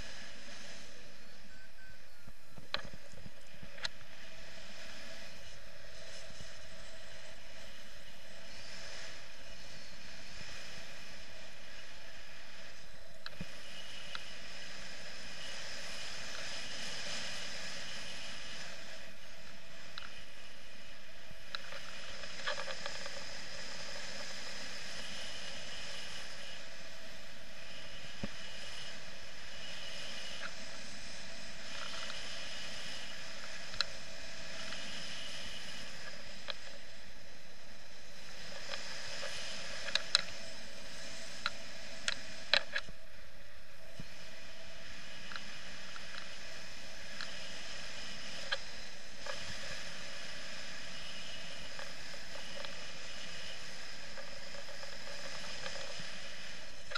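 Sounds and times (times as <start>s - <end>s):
muffled wind rush: 0.0s - 56.9s.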